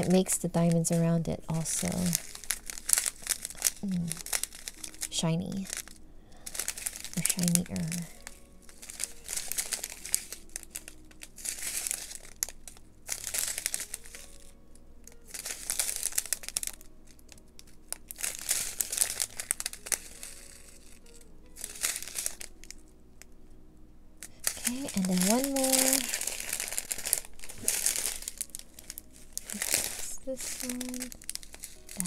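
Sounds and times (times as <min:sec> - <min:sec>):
plastic packets crinkling: 0:00.0 - 0:23.3, 0:24.2 - 0:32.0.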